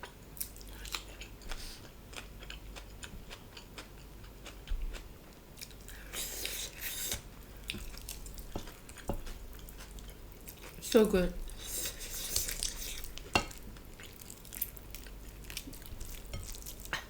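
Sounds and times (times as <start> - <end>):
person chewing food: 0.0 - 10.8, 11.5 - 17.0.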